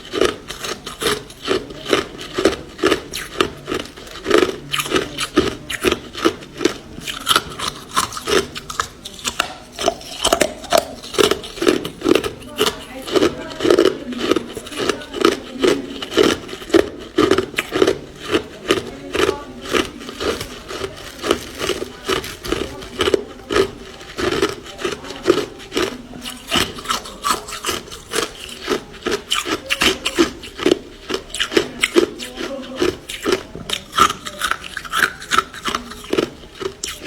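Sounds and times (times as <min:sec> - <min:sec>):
ice being chewed: 0:00.0 - 0:37.0.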